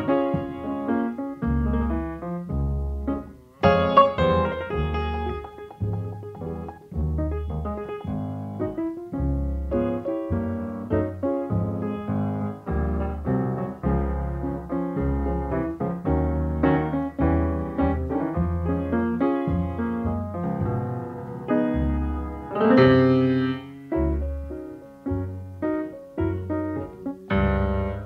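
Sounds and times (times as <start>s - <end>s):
jazz blues piano: 0.0s - 28.0s.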